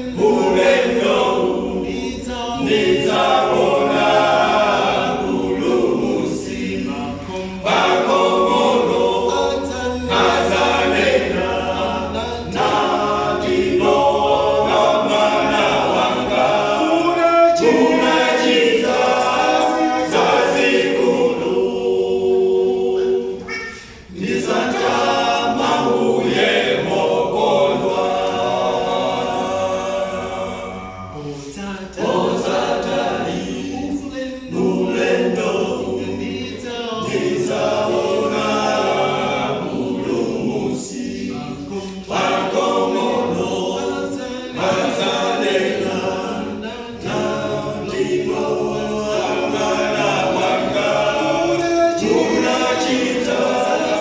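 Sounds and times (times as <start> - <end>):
male a cappella group singing: 0.0 - 54.0.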